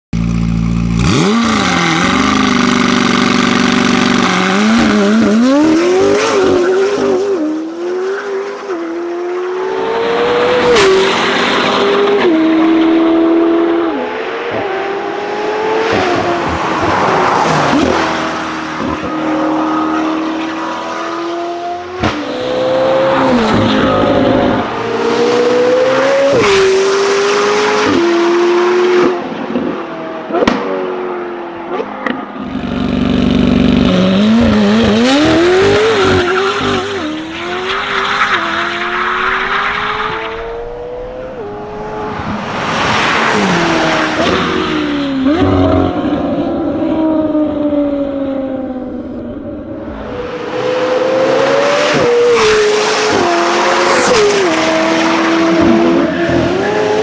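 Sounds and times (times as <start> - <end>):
car engine revving and accelerating: 0.7 - 57.0.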